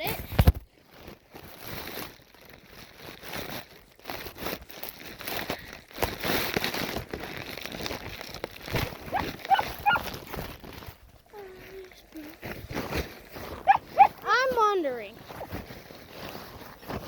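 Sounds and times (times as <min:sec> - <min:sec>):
dry hay rustling and crunching: 0:00.0 - 0:17.0.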